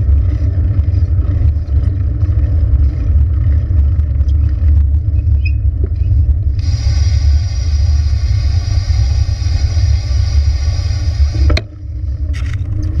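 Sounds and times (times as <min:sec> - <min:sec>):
vehicle high whine: 0:00.0 - 0:13.0
vehicle rumble: 0:00.0 - 0:13.0.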